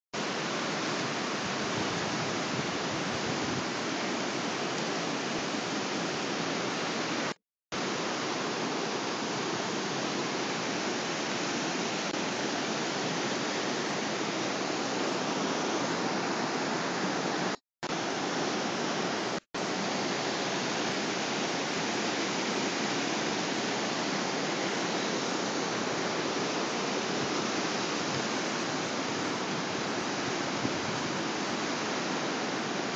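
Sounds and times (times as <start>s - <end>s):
river in flood rushing: 0.2s - 32.9s.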